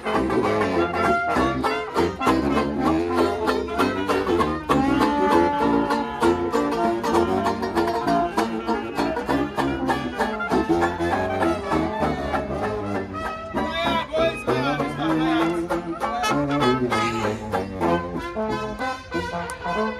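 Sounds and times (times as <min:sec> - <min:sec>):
banjo strumming: 0:00.0 - 0:19.9
saxophone and brass horns: 0:00.0 - 0:19.9.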